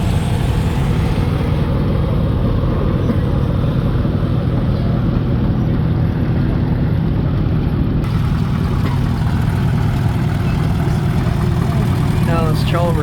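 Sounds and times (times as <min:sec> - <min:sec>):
tractor engine rumbling: 0:00.0 - 0:13.0.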